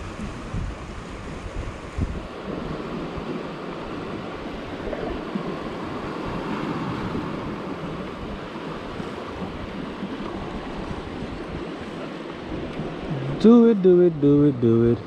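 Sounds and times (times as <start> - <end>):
sea water washing against rocks: 0.0 - 14.7
wind buffeting microphone: 0.0 - 15.0.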